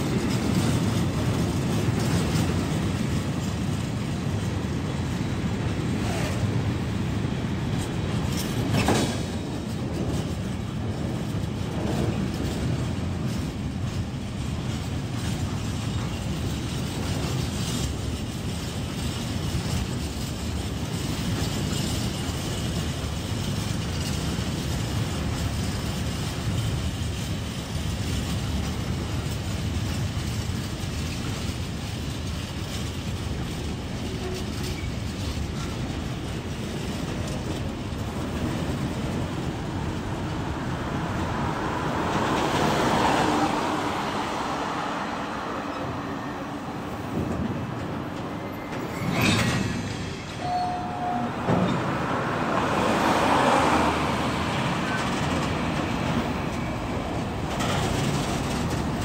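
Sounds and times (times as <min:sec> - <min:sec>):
wheels clicking over rail joints: 0:00.0 - 0:45.9, 0:46.7 - 0:59.0
freight train rolling past: 0:00.0 - 0:59.0.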